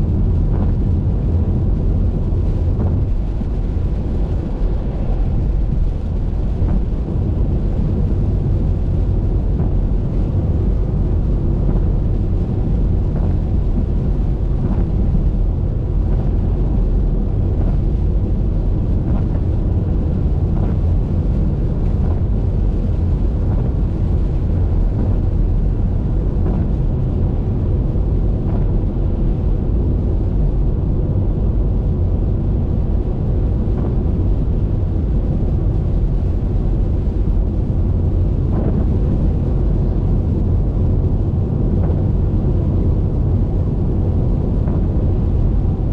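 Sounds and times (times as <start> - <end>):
rain ticking on windshield: 0.0 - 45.9
road and wind noise: 0.0 - 45.9.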